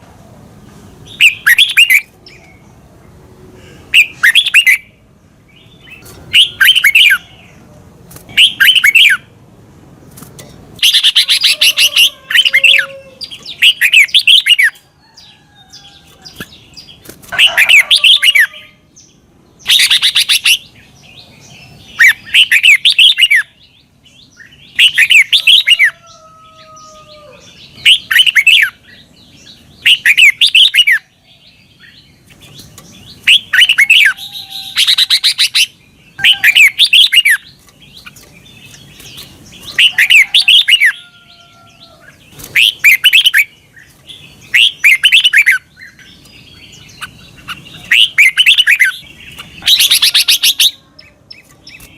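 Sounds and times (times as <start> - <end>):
bulbul singing warbled phrases: 1.0 - 3.1, 3.7 - 9.4, 10.8 - 26.2, 27.3 - 51.9.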